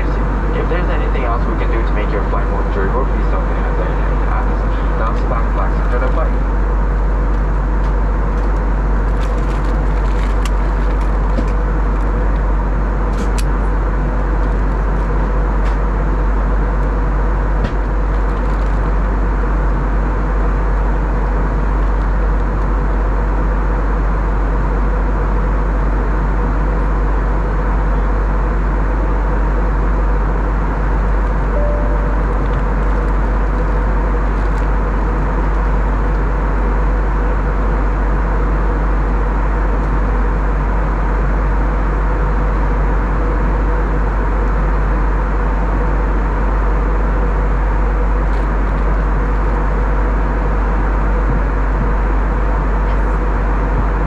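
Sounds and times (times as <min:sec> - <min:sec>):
airliner cabin rumble: 0:00.0 - 0:54.0
faint steady hum: 0:00.0 - 0:54.0.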